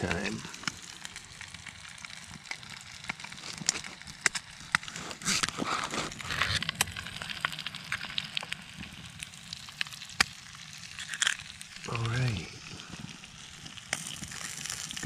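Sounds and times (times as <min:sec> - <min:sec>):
bacon and egg frying: 0:00.0 - 0:15.0
egg sizzling into pan: 0:00.0 - 0:15.0
sharp fat crackles: 0:00.0 - 0:15.0.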